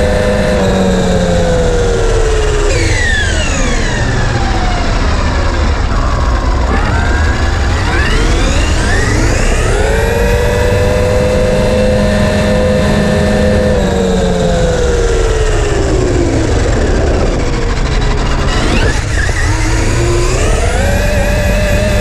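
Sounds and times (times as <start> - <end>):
electric motor whining: 0.0 - 22.0
low rumble: 0.8 - 22.0.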